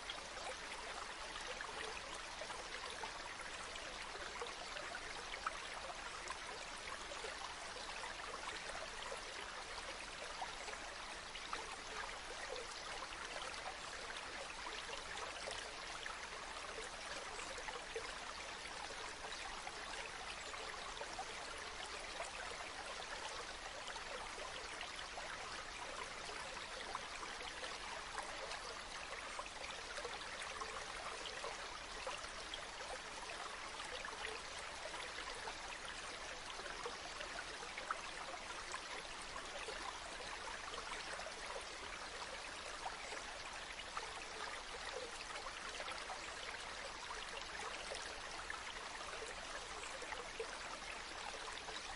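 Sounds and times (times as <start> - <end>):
stream running over rocks: 0.0 - 51.9.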